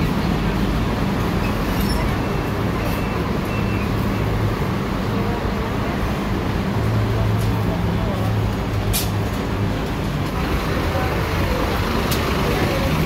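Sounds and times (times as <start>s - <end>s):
bus engine idling: 0.0s - 13.0s
traffic noise: 0.0s - 13.0s.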